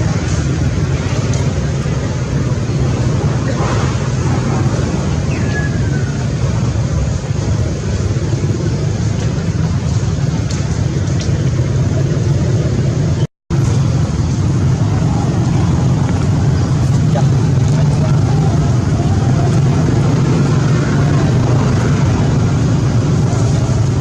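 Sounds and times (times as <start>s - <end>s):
engine rumble: 0.0s - 24.0s.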